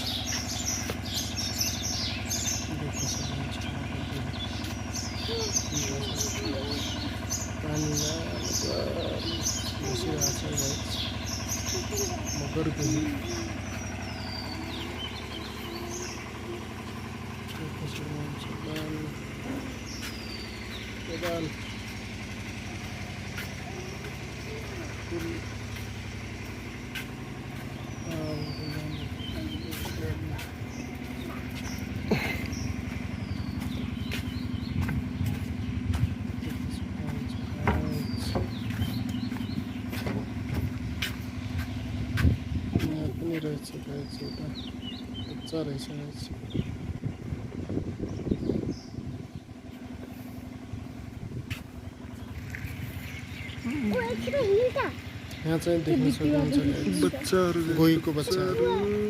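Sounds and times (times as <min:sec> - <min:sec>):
engine idling: 0:00.0 - 0:59.0
low mechanical hum: 0:00.0 - 0:59.0
small birds chirping: 0:00.0 - 0:59.0.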